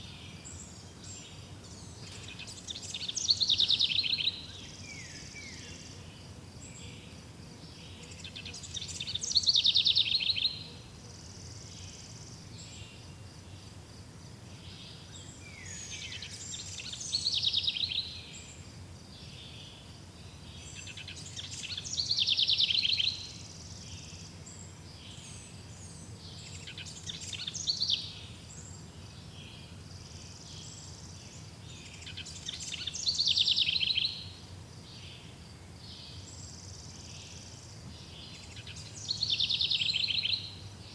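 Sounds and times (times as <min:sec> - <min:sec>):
songbird trilling song: 0:00.0 - 0:40.9.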